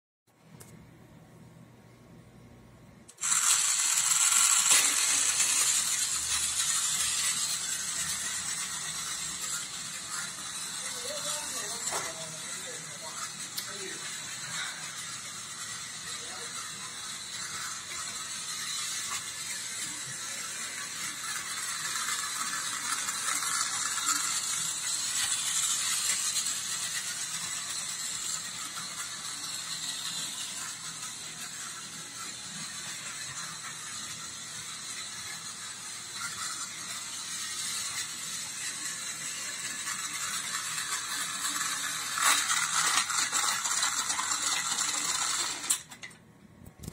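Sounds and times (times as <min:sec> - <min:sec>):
toy train motor whine: 0:03.1 - 0:46.2
toy train wheels rattling: 0:03.1 - 0:46.2.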